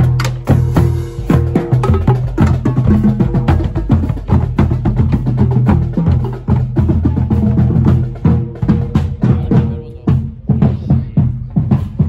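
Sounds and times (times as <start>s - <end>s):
bass drum beats: 0.0s - 12.0s.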